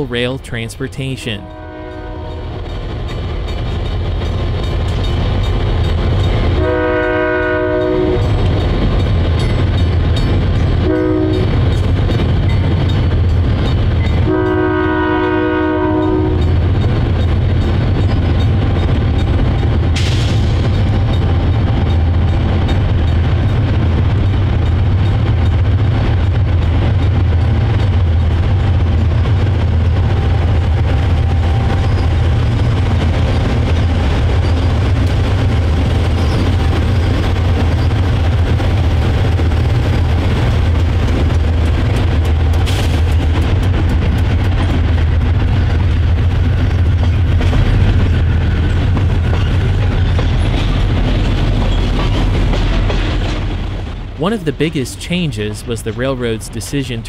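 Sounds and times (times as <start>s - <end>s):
locomotive engines rumbling past: 0.0s - 57.0s.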